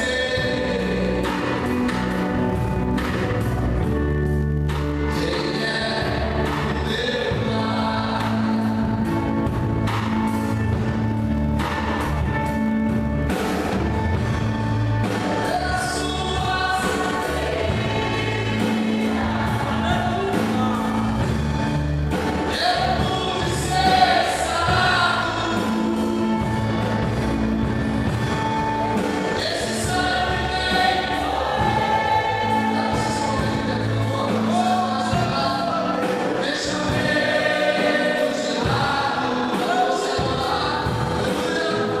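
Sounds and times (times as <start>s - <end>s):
choir singing gospel: 0.0s - 42.0s
instrumental accompaniment: 0.0s - 42.0s.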